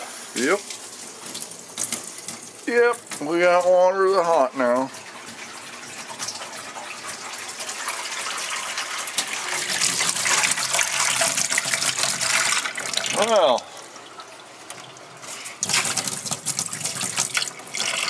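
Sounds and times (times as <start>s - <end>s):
water running from tap: 0.0s - 18.0s.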